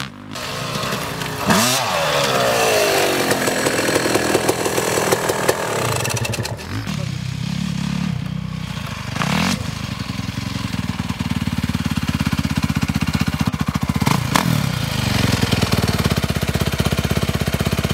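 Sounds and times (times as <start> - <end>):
motocross motorcycle engine revving: 0.0 - 17.9.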